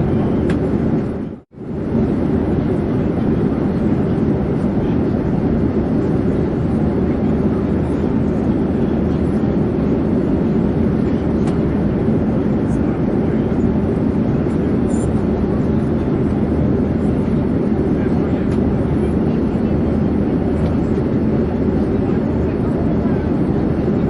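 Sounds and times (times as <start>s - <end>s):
airplane in flight rumble: 0.0s - 24.0s.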